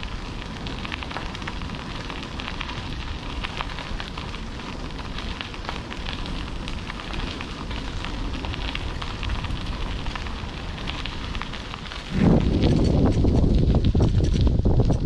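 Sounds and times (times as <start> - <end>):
bicycle tyres crunching on gravel: 0.0 - 15.0
wind buffeting microphone: 0.0 - 15.0.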